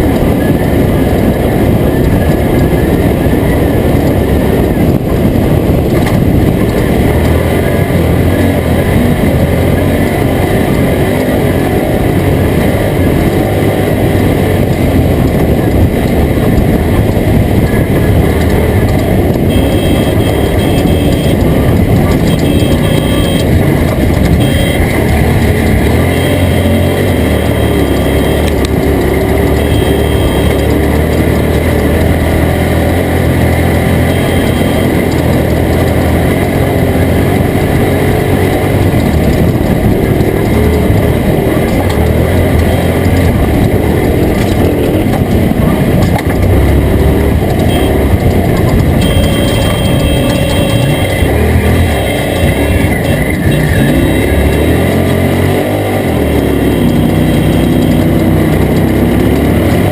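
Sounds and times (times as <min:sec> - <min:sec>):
rough tyre and chassis noise: 0:00.0 - 0:59.9
truck engine running hard: 0:00.0 - 0:59.9.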